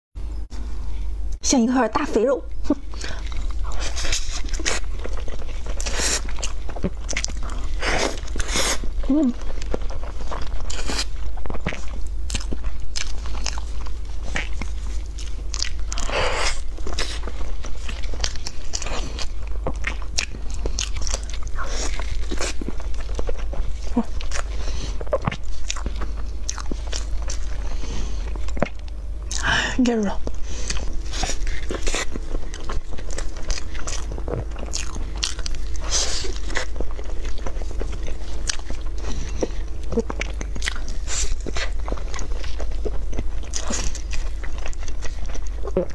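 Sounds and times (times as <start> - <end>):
low steady hum: 0.2 - 45.9
chewing sponge cake: 2.5 - 45.9.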